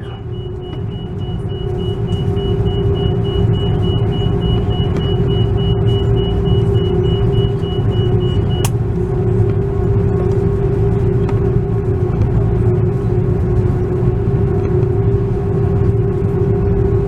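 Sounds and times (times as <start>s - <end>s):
deep runway rumble: 0.0s - 17.0s.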